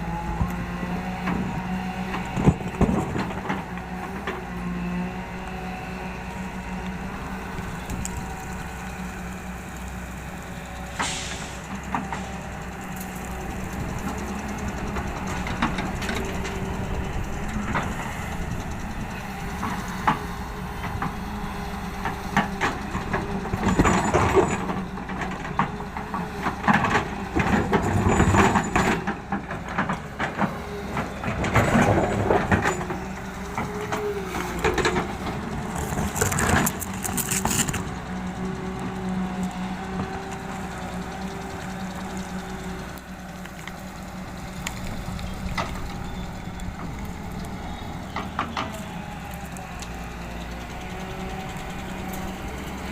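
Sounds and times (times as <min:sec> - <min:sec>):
excavator diesel engine running: 0:00.0 - 0:52.9
loud rough scooping noise: 0:00.7 - 0:25.4, 0:26.1 - 0:52.9.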